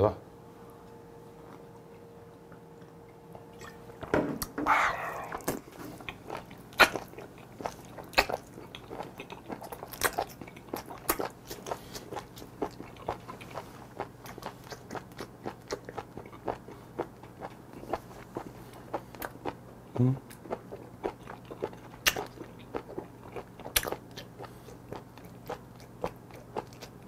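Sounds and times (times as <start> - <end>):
chewing with mouth clicks: 4.7 - 27.0.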